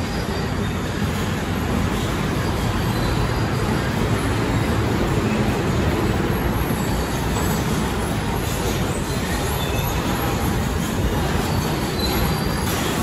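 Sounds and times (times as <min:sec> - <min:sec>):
train rumble and rail noise: 0:00.0 - 0:13.0.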